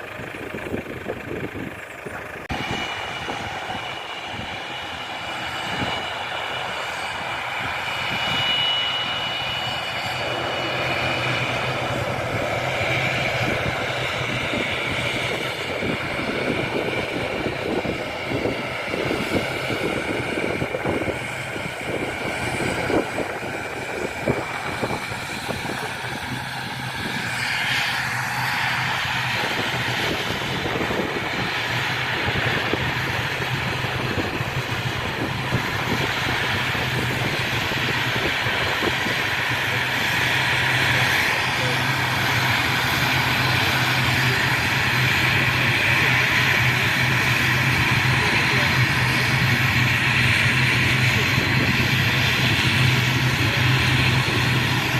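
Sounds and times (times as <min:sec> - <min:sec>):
aircraft engines whining: 0:00.0 - 0:54.9
wind buffeting microphone: 0:00.1 - 0:54.9.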